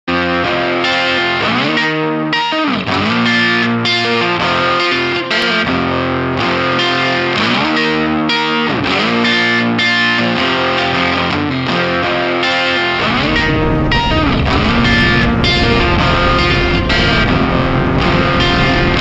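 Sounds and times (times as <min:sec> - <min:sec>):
rock music with electric guitar: 0:00.1 - 0:19.0.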